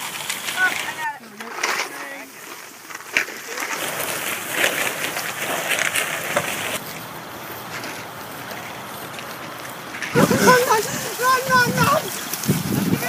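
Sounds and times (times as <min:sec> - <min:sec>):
steady hiss: 0:00.0 - 0:13.0
feet wading through wet grass: 0:02.2 - 0:13.0.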